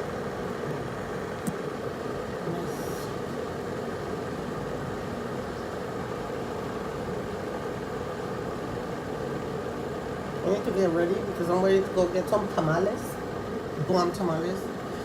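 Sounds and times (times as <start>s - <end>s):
kettle water hissing and rumbling: 0.0s - 15.0s.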